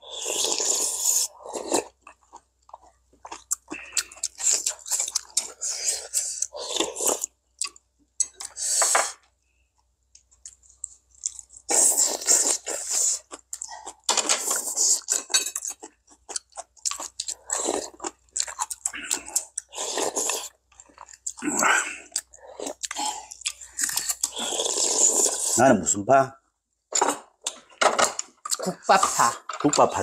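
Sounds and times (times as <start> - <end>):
soup slurping and chewing: 0.0 - 9.2, 10.4 - 25.6.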